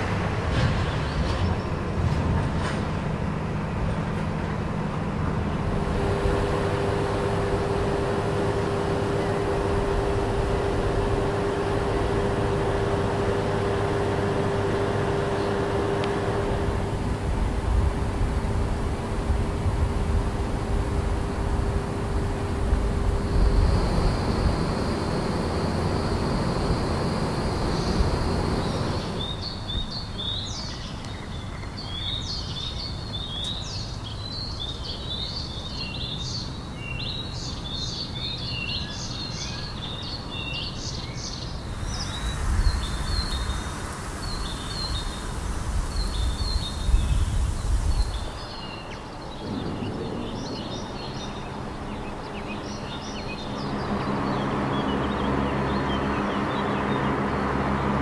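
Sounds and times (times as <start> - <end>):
low outdoor rumble: 0.0 - 29.8, 41.4 - 58.0
small birds chirping: 6.0 - 16.8, 20.3 - 57.6.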